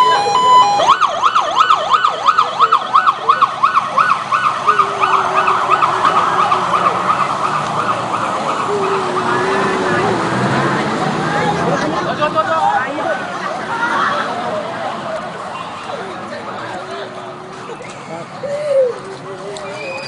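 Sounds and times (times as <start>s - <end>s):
emergency sirens yelping: 0.0s - 16.2s.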